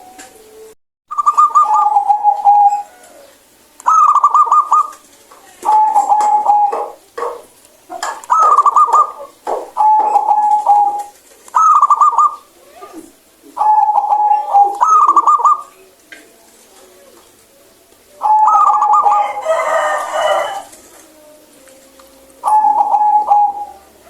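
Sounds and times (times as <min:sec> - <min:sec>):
dove cooing: 0:00.0 - 0:24.0.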